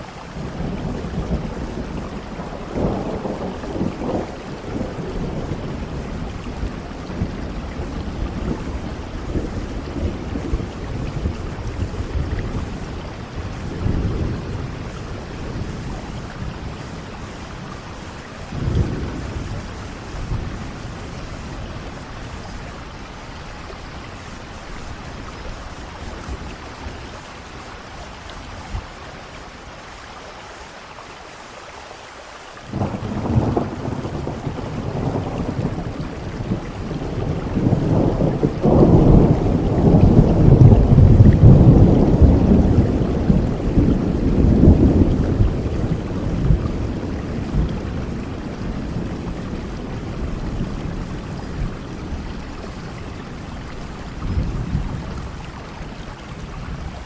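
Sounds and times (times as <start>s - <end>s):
thunder rumbling: 0.0s - 29.3s, 32.7s - 57.0s
steady rain: 0.0s - 57.0s.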